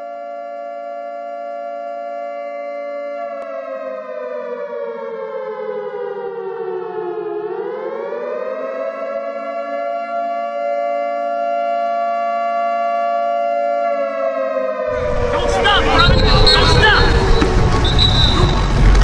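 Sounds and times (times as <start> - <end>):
wailing siren-like tone: 0.0 - 19.0.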